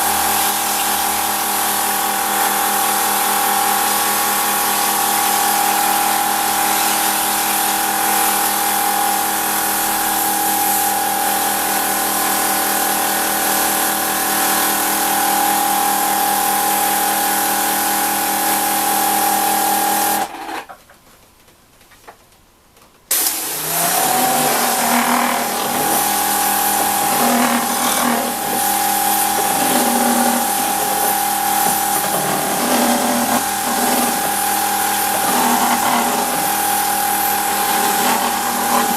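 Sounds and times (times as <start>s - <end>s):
pressure washer pump whine: 0.0s - 20.4s, 23.1s - 38.9s.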